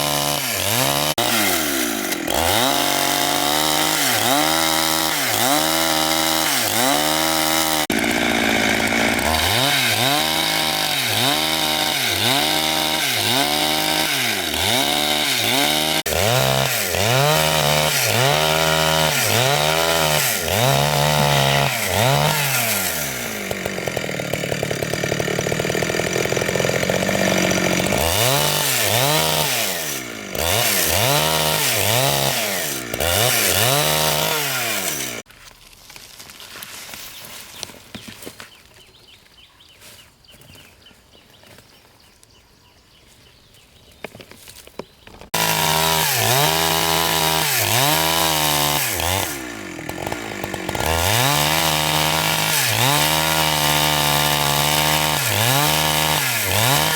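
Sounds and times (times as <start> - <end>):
chainsaw cutting wood: 0.0 - 35.3, 45.0 - 56.9.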